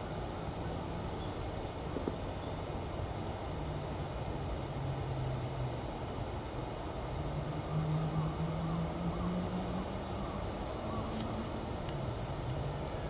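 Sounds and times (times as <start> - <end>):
fan motor hiss: 0.0 - 13.0.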